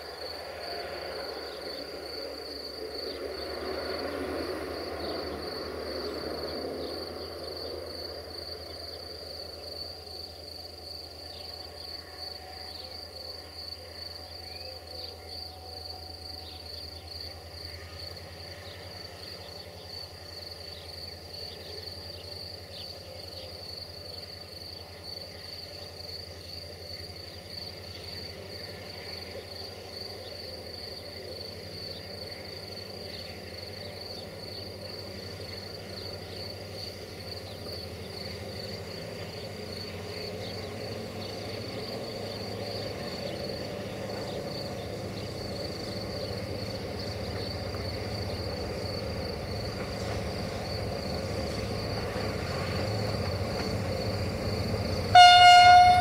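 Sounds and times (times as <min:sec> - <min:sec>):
crickets trilling: 0:00.0 - 0:56.0
locomotive engine hum: 0:00.0 - 0:56.0.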